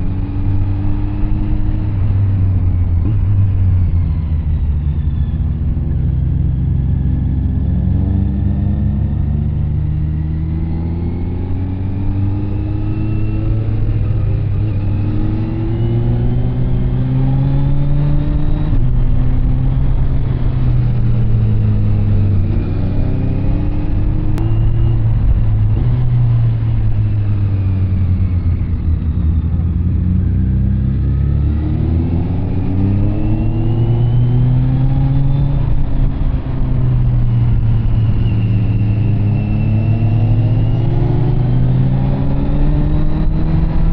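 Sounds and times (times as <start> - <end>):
motorcycle engine revving through gears: 0.0 - 43.9.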